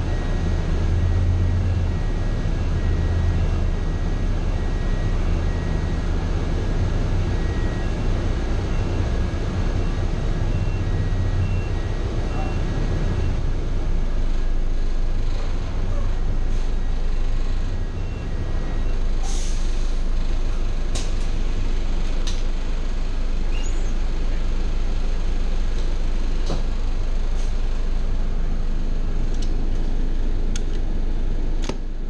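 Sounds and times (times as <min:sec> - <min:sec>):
bus engine idling: 0:00.0 - 0:32.0.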